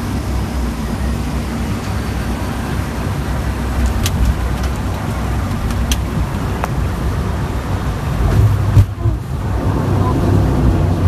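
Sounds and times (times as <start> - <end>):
constant hum: 0.0 - 11.0
low rumble of engines and wheels: 0.0 - 11.0.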